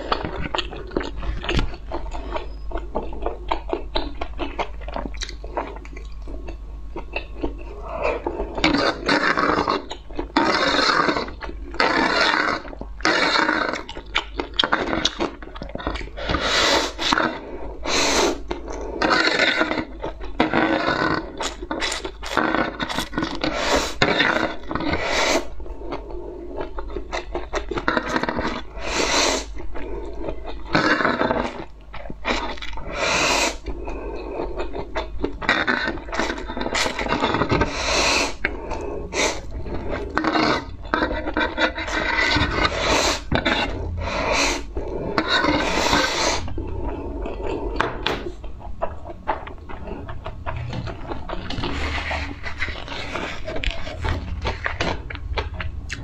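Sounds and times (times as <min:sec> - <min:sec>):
chewing and mouth noises: 0:00.0 - 0:56.0
slurping noodles: 0:07.6 - 0:48.4, 0:49.5 - 0:55.0.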